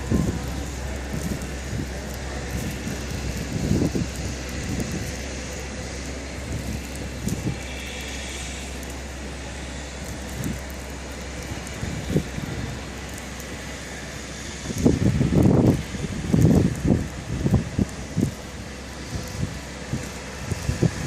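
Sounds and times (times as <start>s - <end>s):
low rumble: 0.0s - 21.0s
snowstorm wind rushing: 0.0s - 21.0s
wind gusts buffeting microphone: 0.0s - 21.0s.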